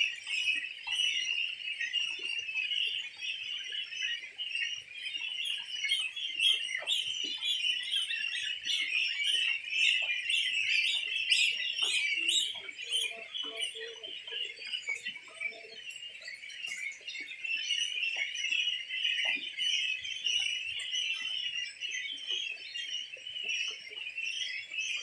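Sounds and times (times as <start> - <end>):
goslings peeping: 0.0 - 25.0.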